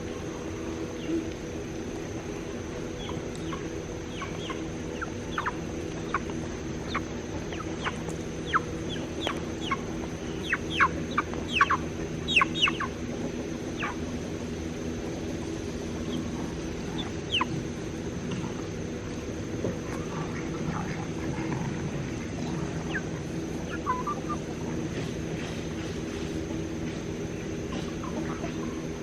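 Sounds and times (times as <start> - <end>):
poultry peeping: 0.0 - 29.0
steady low hum: 0.0 - 29.0.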